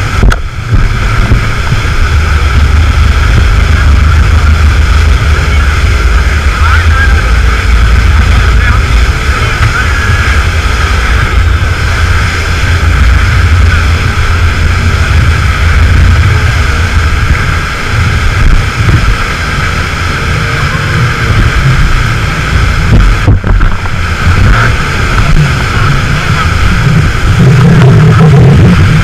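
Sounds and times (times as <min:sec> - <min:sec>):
rush of spray: 0:00.0 - 0:29.0
speedboat engine drone: 0:00.0 - 0:29.0
wind buffeting microphone: 0:00.0 - 0:29.0.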